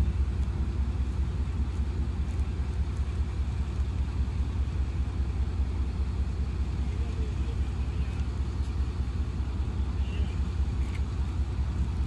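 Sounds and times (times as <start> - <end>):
diesel locomotive engine idling: 0.0 - 12.0.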